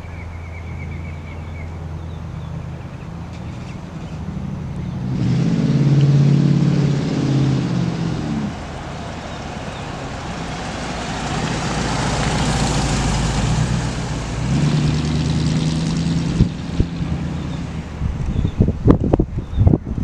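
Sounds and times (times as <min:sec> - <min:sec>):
car engine driving: 0:00.0 - 0:19.8.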